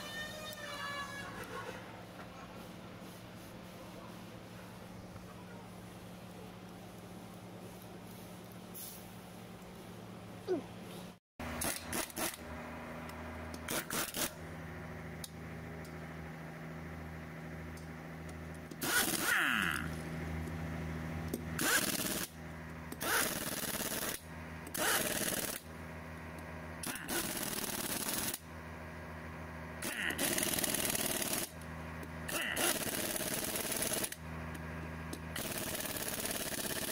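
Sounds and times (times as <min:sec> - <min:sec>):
steady engine hum: 0:00.0 - 0:36.9.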